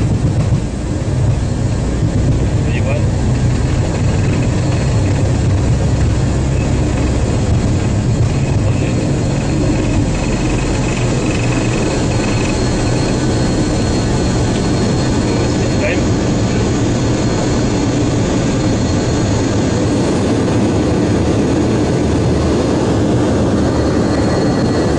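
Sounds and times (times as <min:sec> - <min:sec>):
jet engine deep rumble: 0:00.0 - 0:24.9
faint constant whine: 0:00.5 - 0:24.9.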